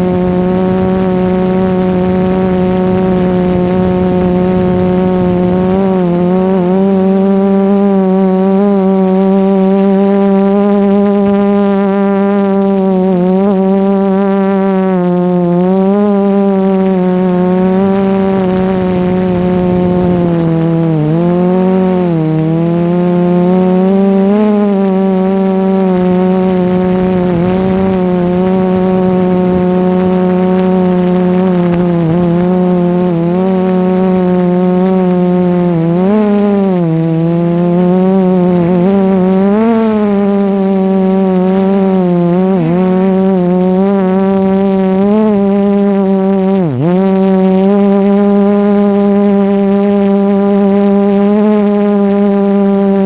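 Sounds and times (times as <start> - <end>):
drone propellers whining: 0.0 - 53.0.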